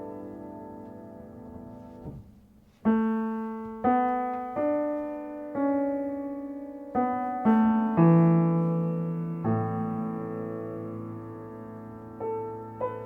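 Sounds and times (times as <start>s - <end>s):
slow solo piano notes: 0.0s - 13.0s.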